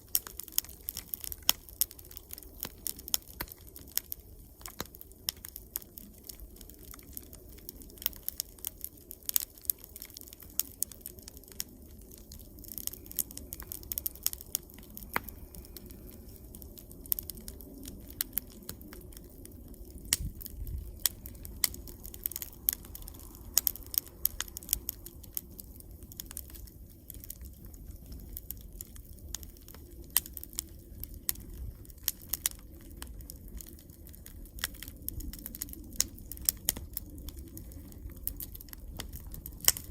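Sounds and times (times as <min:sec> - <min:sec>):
campfire crackling: 0:00.0 - 0:39.9
low rumble of burning fire: 0:00.0 - 0:39.9.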